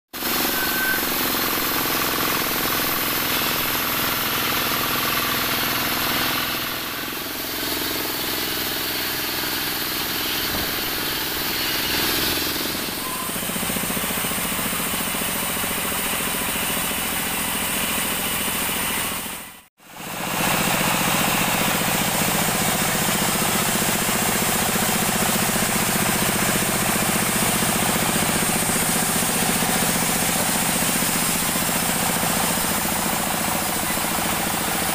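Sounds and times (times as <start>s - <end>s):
band saw cutting logs: 0.2s - 34.9s.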